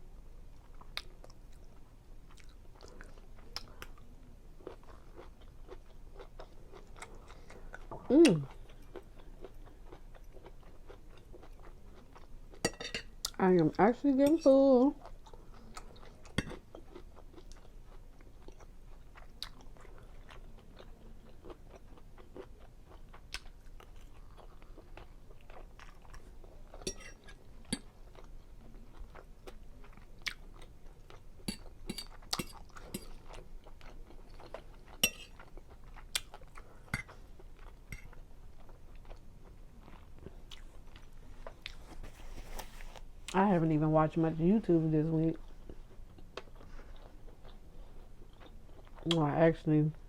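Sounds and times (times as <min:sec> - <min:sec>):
person chewing wetly: 0:00.6 - 0:12.6, 0:15.0 - 0:42.8, 0:45.4 - 0:49.2.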